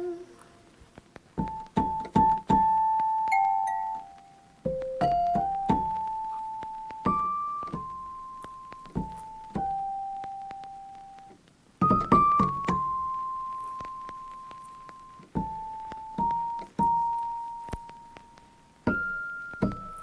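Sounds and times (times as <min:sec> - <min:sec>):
slow piano melody: 0:00.0 - 0:00.4, 0:01.4 - 0:20.0.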